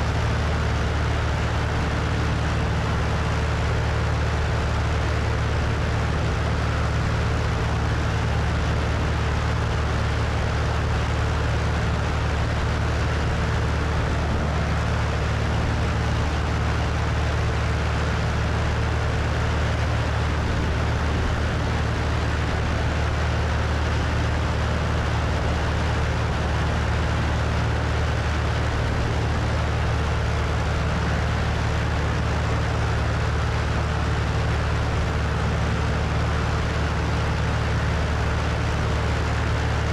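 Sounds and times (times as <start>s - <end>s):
plane engine droning: 0.0s - 39.9s.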